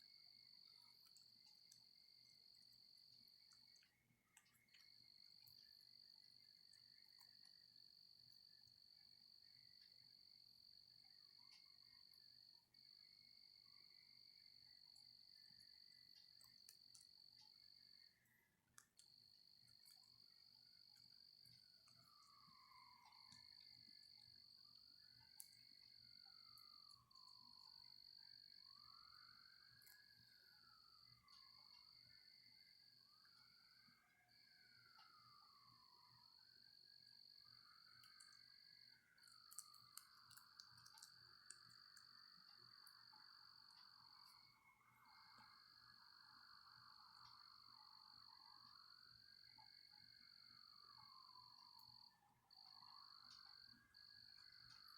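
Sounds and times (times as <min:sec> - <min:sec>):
night insect trill: 0:00.0 - 0:54.9.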